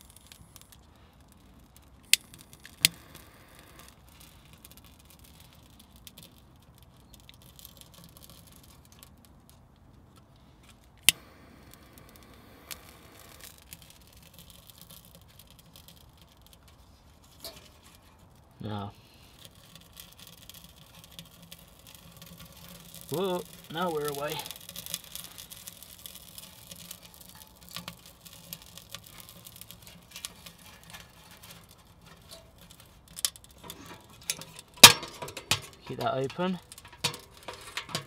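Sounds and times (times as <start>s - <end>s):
bark and twigs handled in stove: 0.0s - 38.0s.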